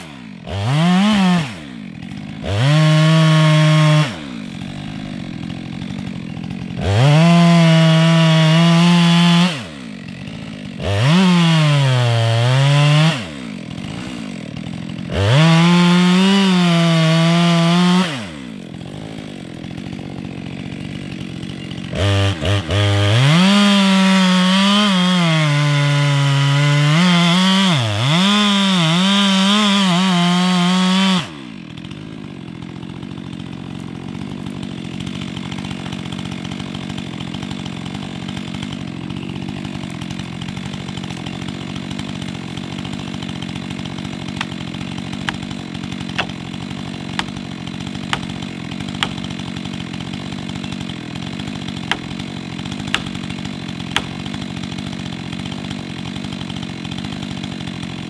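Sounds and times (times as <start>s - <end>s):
chainsaw cutting at full throttle: 0.0s - 58.0s
chainsaw idling: 0.0s - 58.0s.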